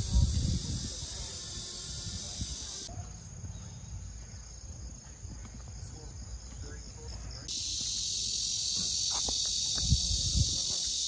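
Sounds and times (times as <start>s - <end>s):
cicadas buzzing: 0.0s - 11.0s
faint insect noise: 0.0s - 11.0s.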